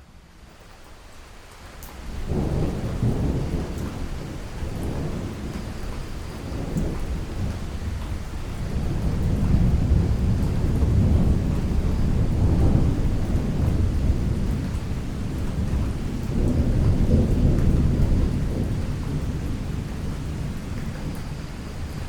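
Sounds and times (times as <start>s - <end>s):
steady rain: 0.0s - 22.0s
rolling thunder: 2.2s - 22.0s.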